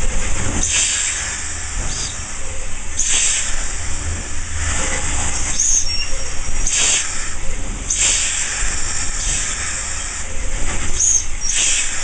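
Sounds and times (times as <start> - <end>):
steam hissing bursts: 0.0 - 12.0
steam locomotive rumble: 0.0 - 12.0.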